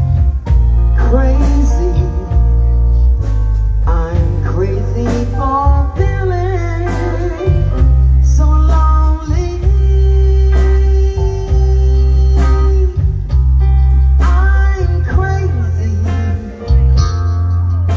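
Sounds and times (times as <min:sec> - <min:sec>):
blues band playing: 0:00.0 - 0:17.9
person singing: 0:00.9 - 0:03.2, 0:03.8 - 0:13.4, 0:14.1 - 0:17.2.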